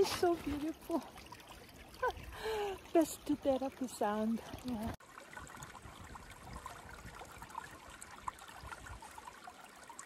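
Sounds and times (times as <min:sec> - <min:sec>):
creek water rushing and bubbling: 0:00.0 - 0:10.0.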